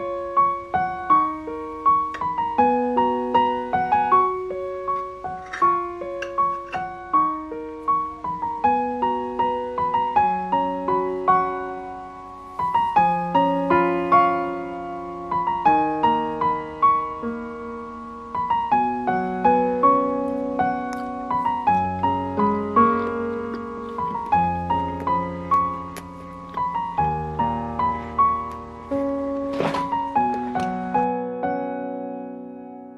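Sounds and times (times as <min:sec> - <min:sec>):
piano music: 0:00.0 - 0:32.9.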